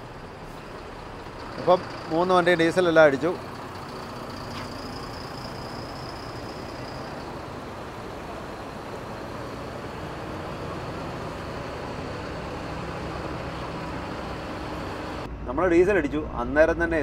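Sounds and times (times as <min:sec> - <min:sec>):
diesel lorry engines droning: 0:00.0 - 0:17.0.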